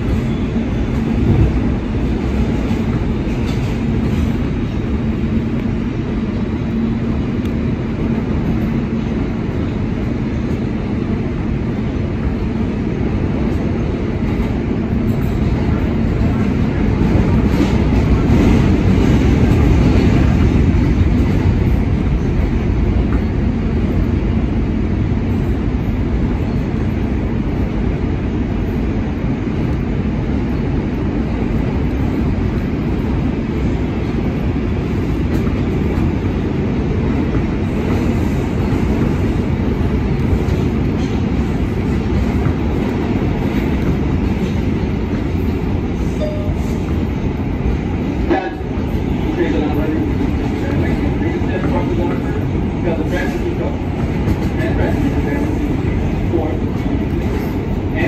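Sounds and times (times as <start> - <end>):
subway train wheels on rail: 0.0 - 58.0.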